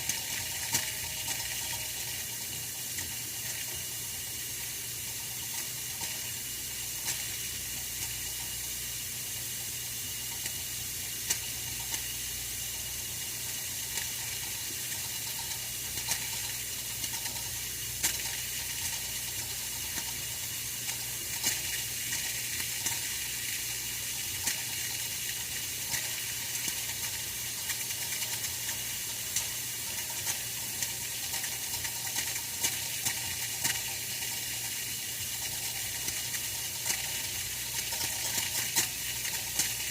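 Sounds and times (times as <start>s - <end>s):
radiator heater hissing: 0.0s - 39.9s.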